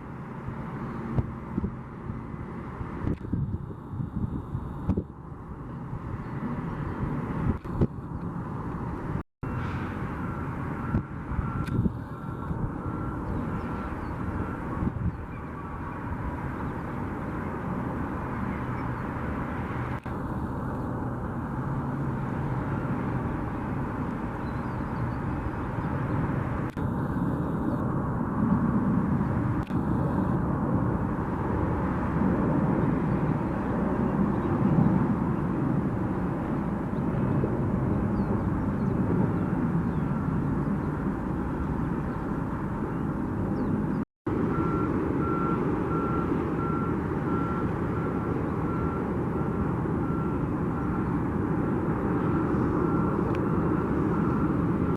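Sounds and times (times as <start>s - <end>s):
jet engines running: 0.0s - 54.9s.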